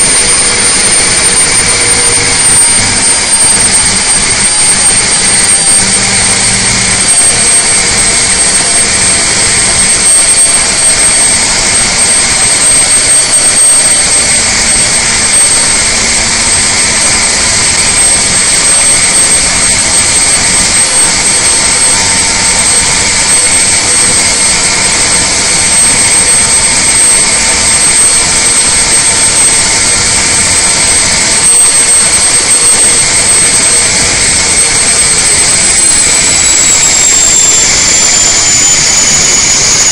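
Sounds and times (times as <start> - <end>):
diesel engine roaring: 0.0 - 39.9
high-pitched whine: 0.0 - 39.9.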